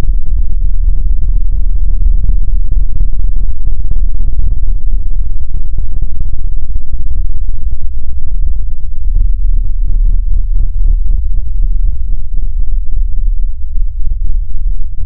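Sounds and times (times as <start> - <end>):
deep slowed-down rumbling: 0.0 - 15.0.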